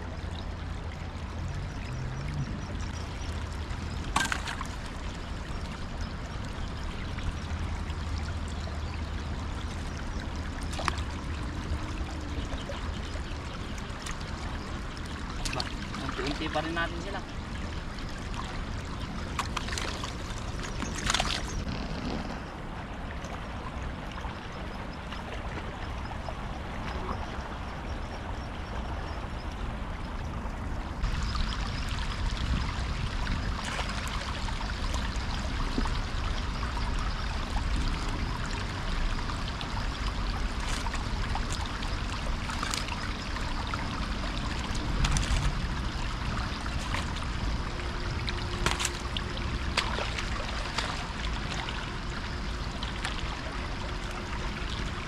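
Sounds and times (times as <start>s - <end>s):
river flowing over stones: 0.0s - 28.3s, 31.0s - 55.0s.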